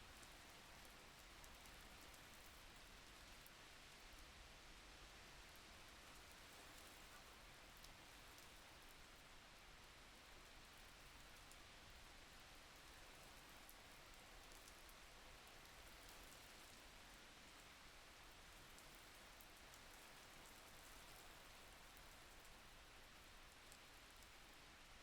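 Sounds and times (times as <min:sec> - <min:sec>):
light rain: 0:00.0 - 0:25.0.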